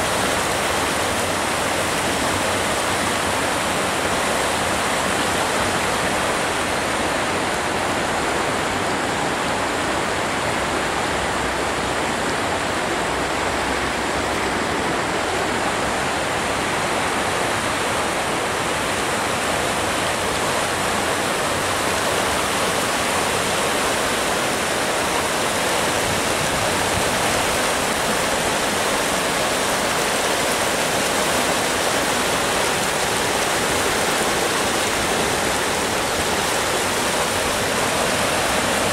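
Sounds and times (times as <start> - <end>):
floodwater rushing: 0.0 - 38.9.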